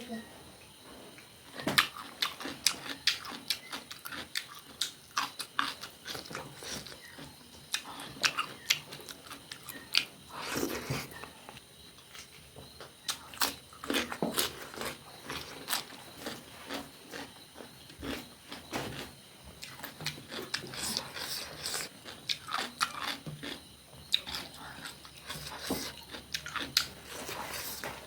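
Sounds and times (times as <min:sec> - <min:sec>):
person chewing food: 0:01.2 - 0:28.0.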